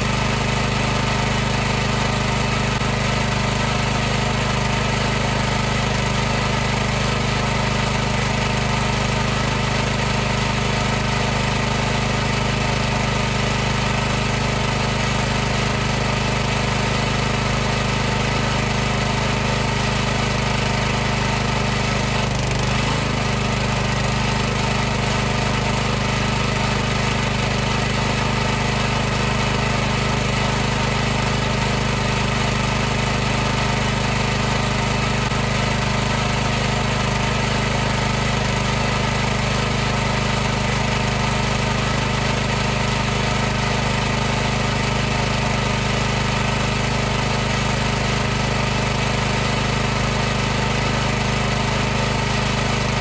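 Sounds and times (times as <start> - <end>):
pressure washer pump humming: 0.0 - 53.0.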